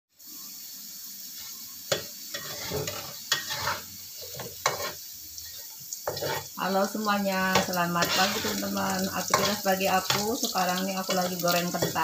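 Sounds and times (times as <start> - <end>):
potato sticks frying in oil: 0.2 - 12.0
spatula scraping a pan: 1.4 - 6.6, 7.5 - 12.0.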